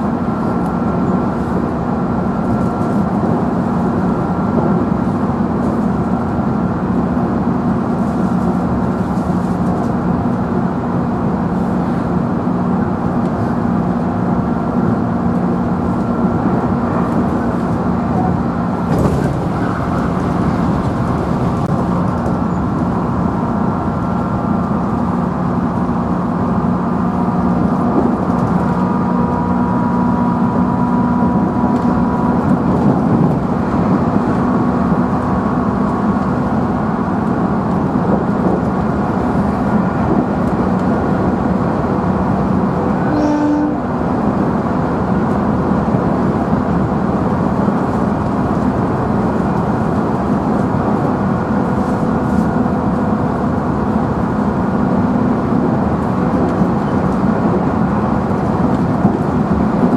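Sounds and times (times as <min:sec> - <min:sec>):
wheel and rail noise: 0:00.0 - 0:59.9
electric train motor hum: 0:10.0 - 0:59.9.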